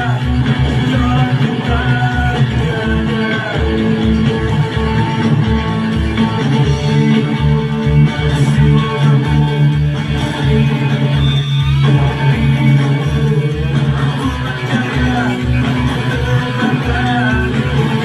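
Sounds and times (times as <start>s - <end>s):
electric guitar rock music: 0.0s - 18.0s
steady kick drum beat: 0.0s - 18.0s
sustained bass notes: 0.0s - 18.0s.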